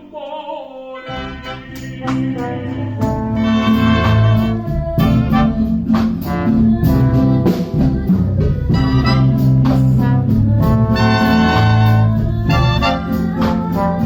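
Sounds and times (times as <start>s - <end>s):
wind band with shawms and brass: 1.1s - 7.9s, 8.7s - 14.0s.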